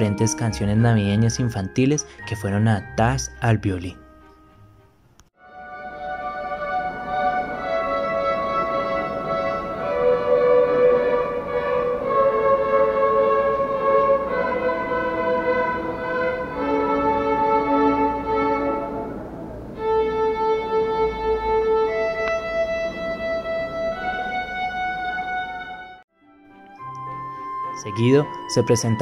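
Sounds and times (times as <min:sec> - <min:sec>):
violin ensemble playing: 0:05.4 - 0:29.0.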